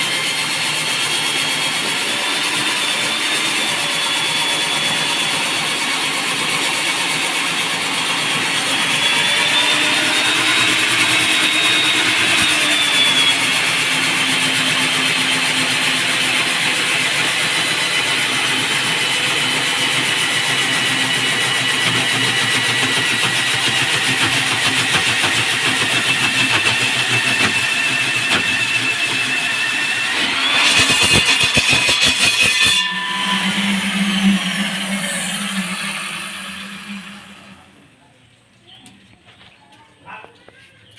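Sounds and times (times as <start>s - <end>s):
core drill boring into concrete: 0.0s - 38.0s.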